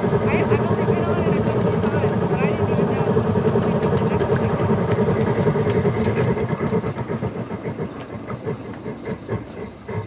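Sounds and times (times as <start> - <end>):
miniature train rumbling on rails: 0.0 - 10.0.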